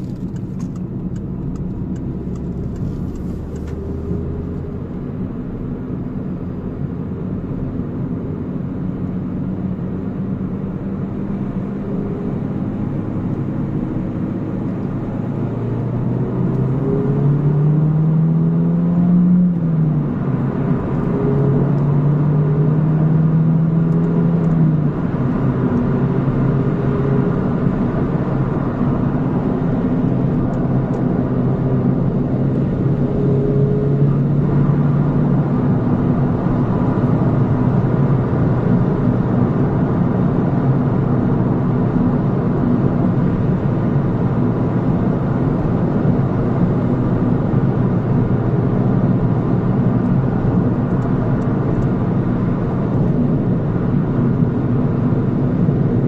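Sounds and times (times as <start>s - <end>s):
car engine droning while driving: 0.0s - 56.0s.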